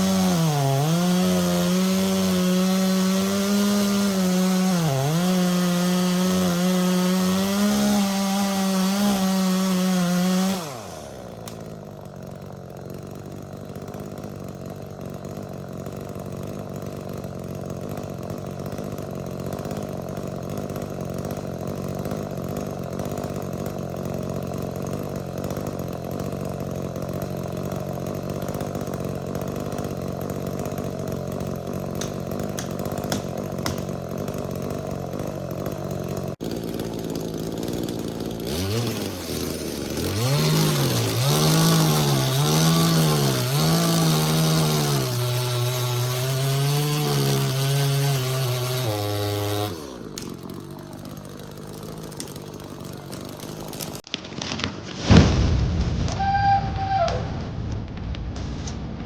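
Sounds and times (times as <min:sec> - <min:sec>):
chainsaw cutting wood: 0:00.0 - 0:56.2.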